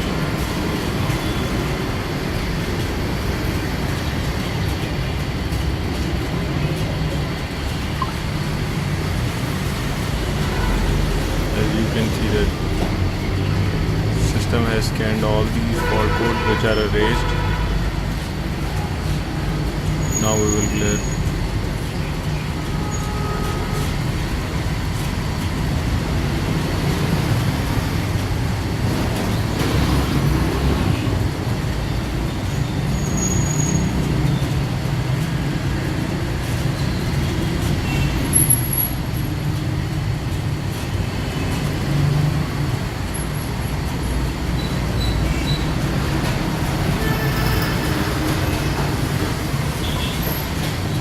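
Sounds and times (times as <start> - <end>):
low rumble of traffic: 0.0 - 51.0.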